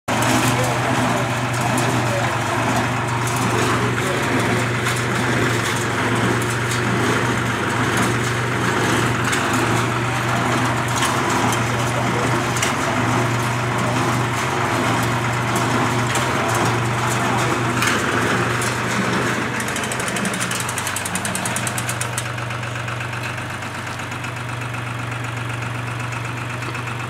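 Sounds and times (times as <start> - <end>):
faint voices talking: 0.1 - 23.5
tractor engine idling: 0.1 - 27.0.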